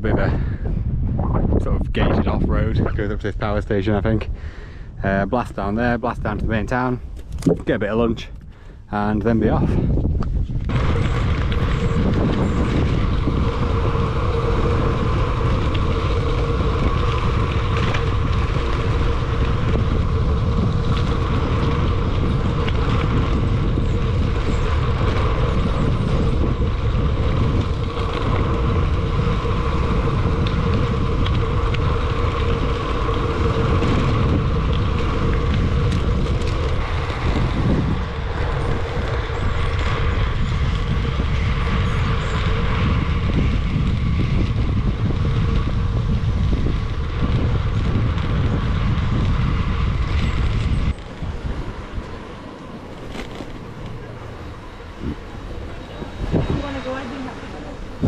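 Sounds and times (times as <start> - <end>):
tyres humming on road: 0.0 - 58.0
wind rushing over microphone: 0.0 - 58.0.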